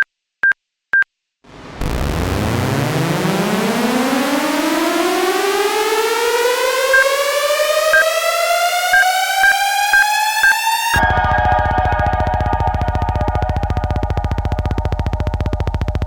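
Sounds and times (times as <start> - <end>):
rapidly pulsing synth chord: 1.5 - 16.0
synth tone gliding upward: 1.5 - 16.0.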